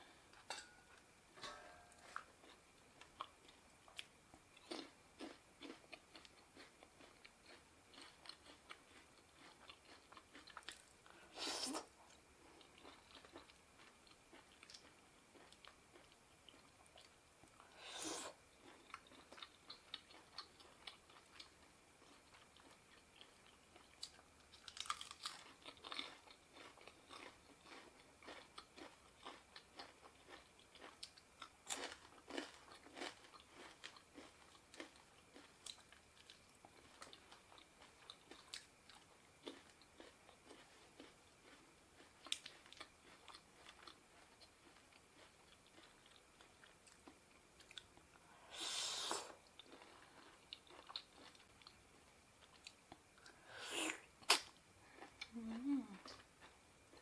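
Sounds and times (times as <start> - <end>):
chewing and crunching food: 2.0 - 48.4, 49.4 - 53.4, 54.2 - 57.0.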